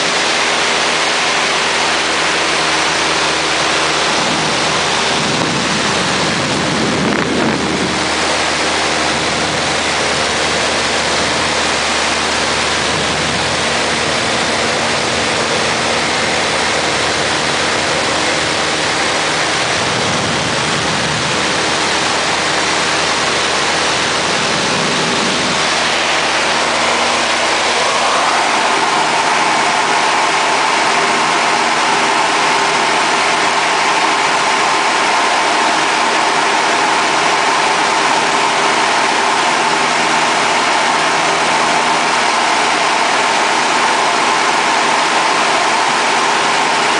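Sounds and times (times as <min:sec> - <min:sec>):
propeller plane engine droning: 0:00.0 - 0:46.9
rushing wind: 0:00.0 - 0:46.9.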